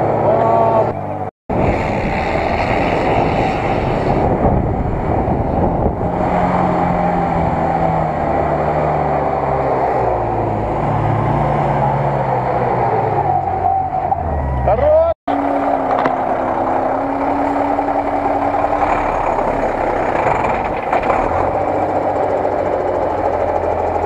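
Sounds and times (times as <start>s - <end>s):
off-road engine running under load: 0.0s - 24.0s.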